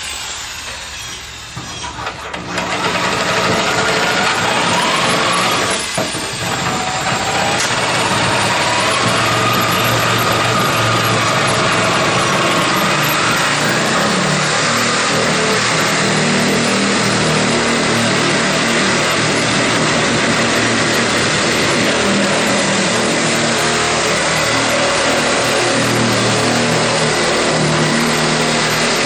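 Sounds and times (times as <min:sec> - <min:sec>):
air-powered metal cutter cutting steel: 0:00.0 - 0:29.0.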